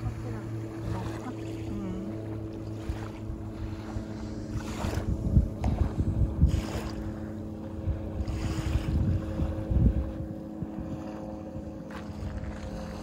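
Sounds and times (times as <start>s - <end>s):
distant engine droning: 0.0s - 13.0s
wind buffeting microphone: 0.0s - 13.0s.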